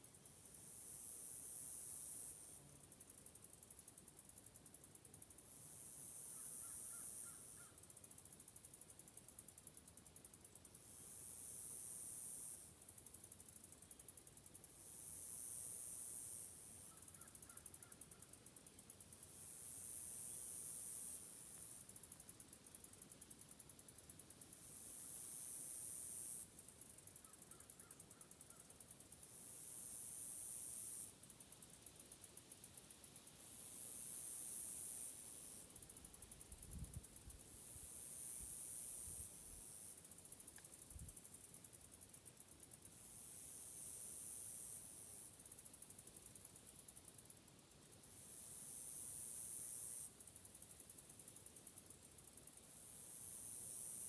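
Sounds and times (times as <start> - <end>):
insect chorus buzzing: 5.4 - 9.2, 10.2 - 54.0.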